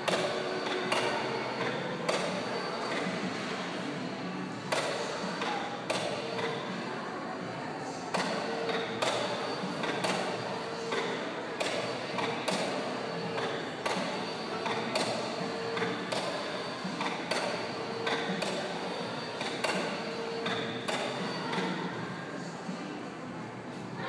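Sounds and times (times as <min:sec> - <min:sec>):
background hubbub: 0:00.0 - 0:24.0.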